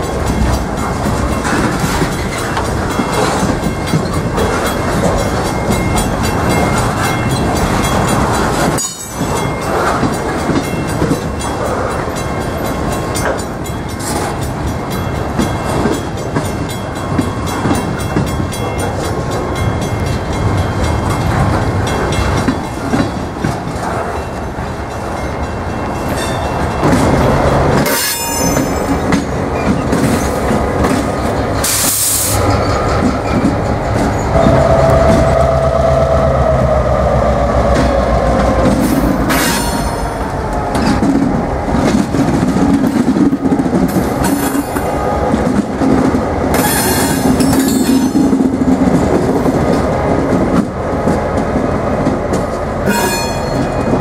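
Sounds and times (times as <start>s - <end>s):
freight train wheels clattering on rails: 0.0s - 54.0s.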